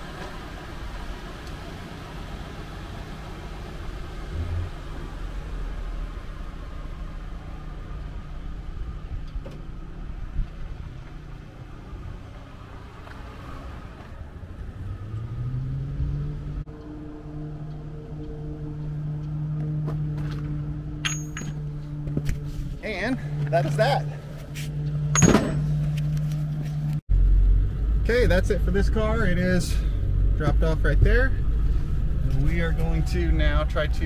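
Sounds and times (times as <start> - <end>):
car engine idling: 0.0 - 13.0, 16.7 - 34.0
rising engine tone: 0.4 - 34.0.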